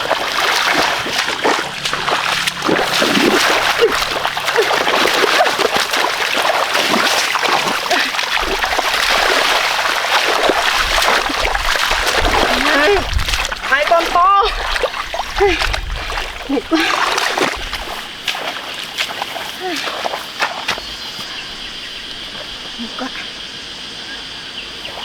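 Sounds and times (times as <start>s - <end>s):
splashing in shallow muddy water: 0.0s - 25.0s.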